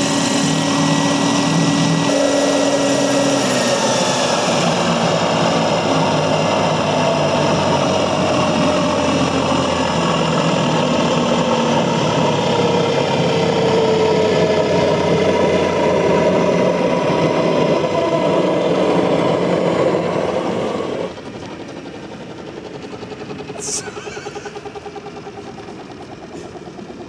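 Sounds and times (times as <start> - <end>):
model helicopter turbine whine: 0.0 - 27.0.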